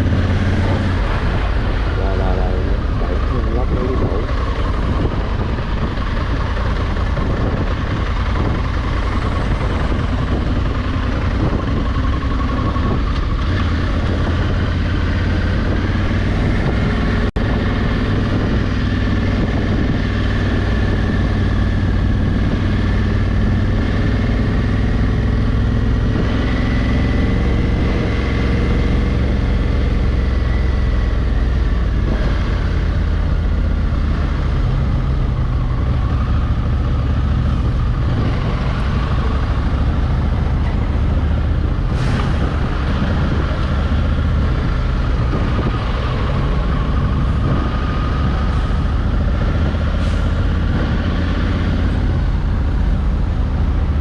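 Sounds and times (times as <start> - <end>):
motorcycle engine running: 0.0 - 54.0
wind on microphone: 2.7 - 54.0.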